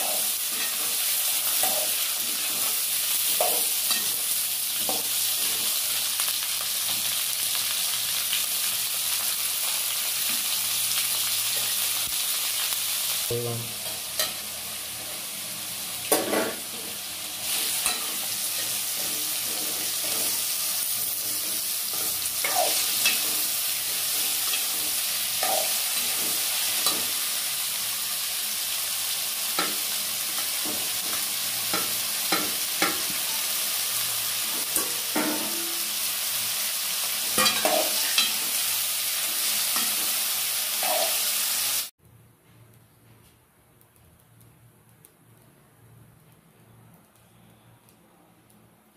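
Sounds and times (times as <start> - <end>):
vegetables sizzling in hot oil: 0.0 - 41.9.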